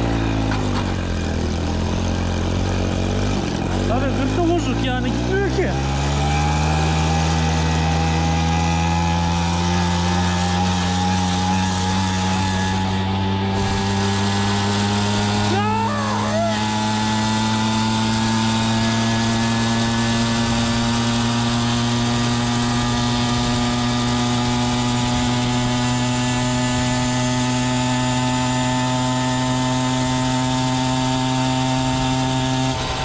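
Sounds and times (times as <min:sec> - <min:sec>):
moped engine buzzing at high revs: 0:00.0 - 0:33.0.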